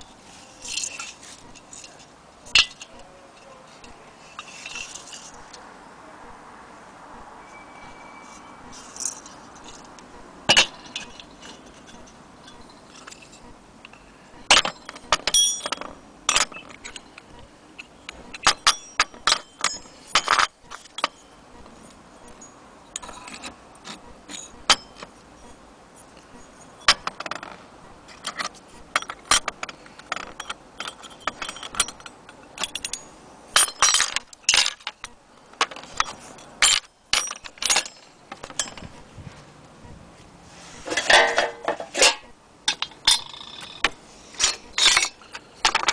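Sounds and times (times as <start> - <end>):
metal parts clinking and rattling: 0.0 - 5.6, 8.3 - 17.2, 17.8 - 25.2, 26.0 - 39.0, 40.8 - 45.9.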